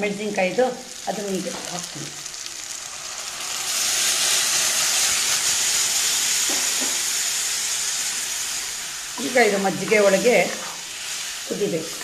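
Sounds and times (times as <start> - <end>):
liquid hissing in hot oil: 0.8 - 12.0.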